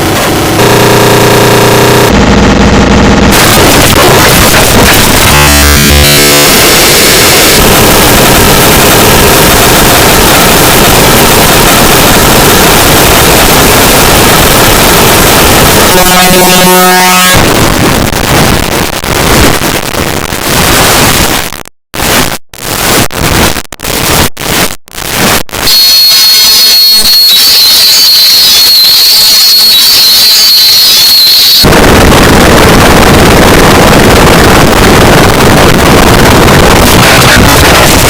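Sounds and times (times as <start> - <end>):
harsh distorted noise: 0.0 - 38.0
high steady whine: 0.0 - 38.0.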